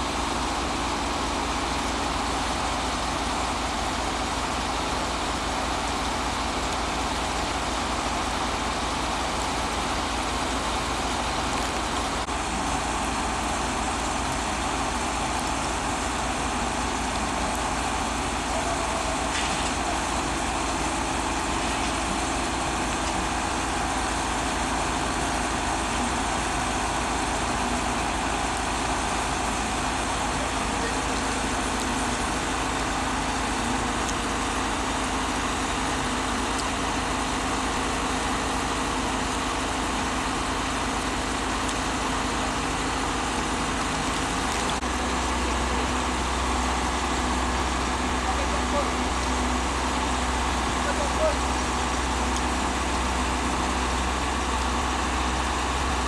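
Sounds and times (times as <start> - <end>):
train engine running: 0.0 - 56.0.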